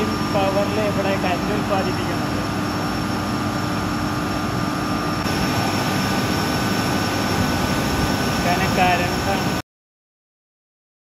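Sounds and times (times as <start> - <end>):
steady whining tones: 0.0 - 9.6
turbine mechanical drone: 0.0 - 9.6.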